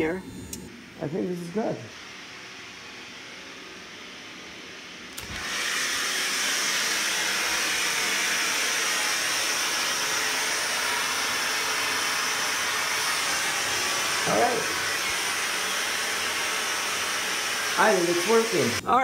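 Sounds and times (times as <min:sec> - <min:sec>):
steam hissing: 0:01.1 - 0:18.8.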